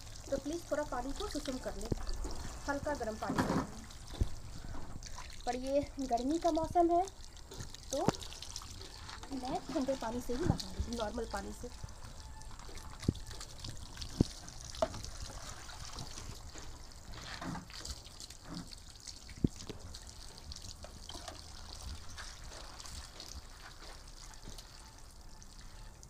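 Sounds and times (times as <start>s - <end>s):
water splashing on dog's coat: 0.0s - 26.0s.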